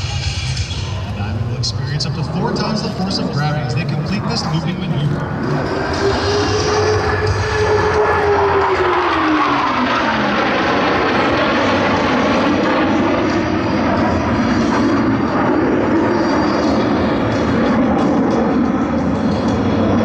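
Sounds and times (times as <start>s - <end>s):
fighter jets roaring past: 0.0s - 20.0s.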